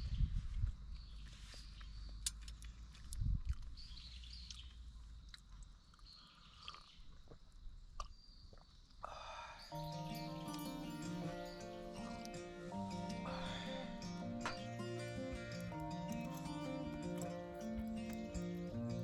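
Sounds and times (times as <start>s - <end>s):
small birds chirping: 0.0s - 7.4s, 8.0s - 19.0s
outdoor background noise: 0.0s - 19.0s.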